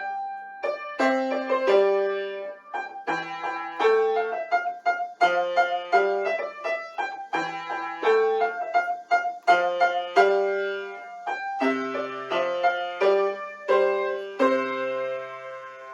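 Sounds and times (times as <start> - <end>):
piano playing a hornpipe: 0.0 - 15.9.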